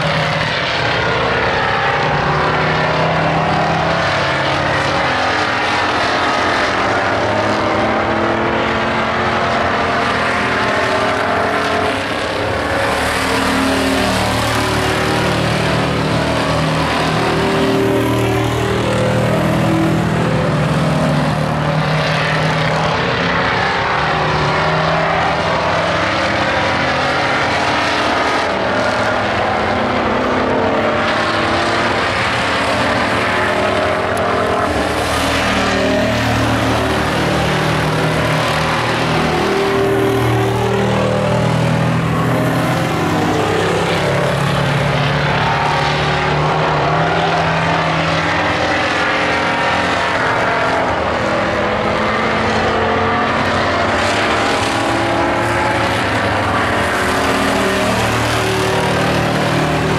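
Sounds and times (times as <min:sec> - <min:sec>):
race truck engines passing: 0:00.0 - 0:59.9.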